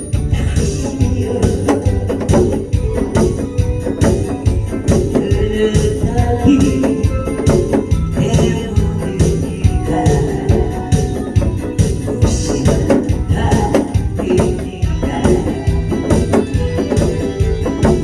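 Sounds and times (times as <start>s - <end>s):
lively band music: 0.0s - 18.0s
organ-like keyboard: 0.0s - 18.0s.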